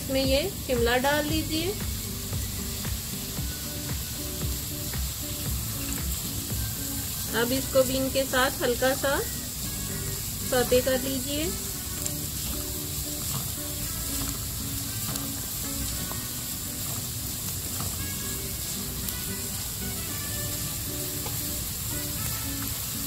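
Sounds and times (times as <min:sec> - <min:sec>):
soft background music: 0:00.0 - 0:23.0
vegetables sizzling in oil: 0:00.0 - 0:23.0
spatula stirring in pan: 0:03.5 - 0:23.0.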